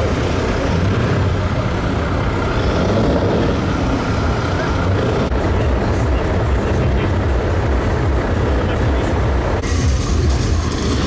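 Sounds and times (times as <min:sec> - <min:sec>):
heavy truck engines rumbling: 0:00.0 - 0:11.0.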